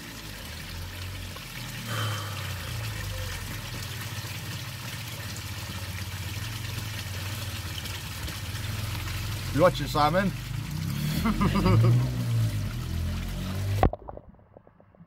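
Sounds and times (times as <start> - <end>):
water splashing into pond: 0.0 - 15.0.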